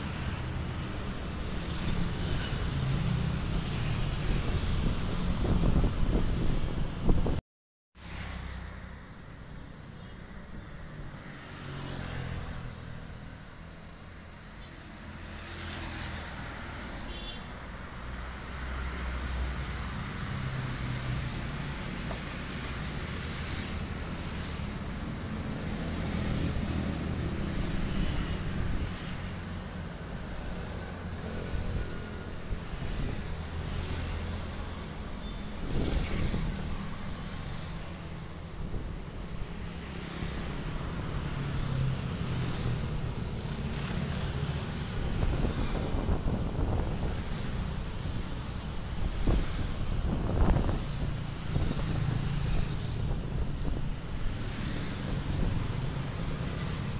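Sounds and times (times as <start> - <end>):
road traffic rumble: 0.0 - 7.4, 8.0 - 56.9.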